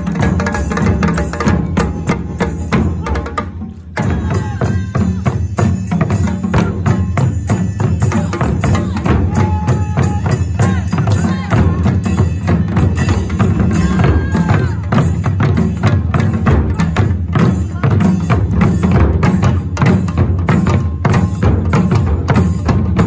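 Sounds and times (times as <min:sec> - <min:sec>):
drum ensemble playing fast rhythm: 0:00.0 - 0:23.0.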